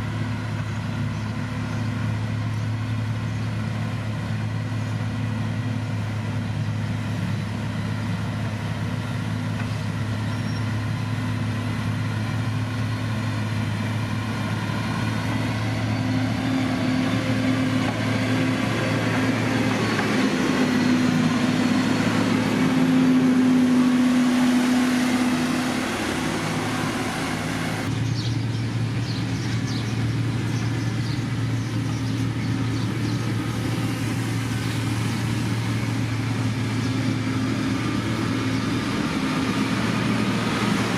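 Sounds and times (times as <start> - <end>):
heavy machinery diesel engine droning: 0.0 - 40.9.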